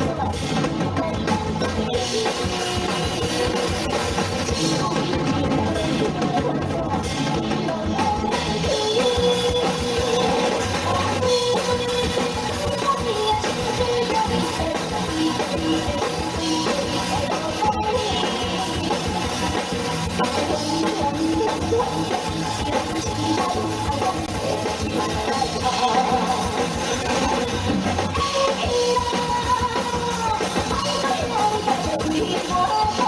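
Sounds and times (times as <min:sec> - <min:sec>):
rock band music: 0:00.0 - 0:33.0.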